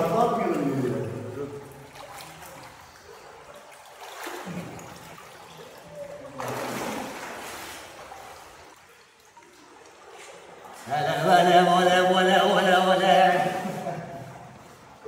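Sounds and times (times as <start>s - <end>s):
water trickling and splashing: 0.0s - 15.0s.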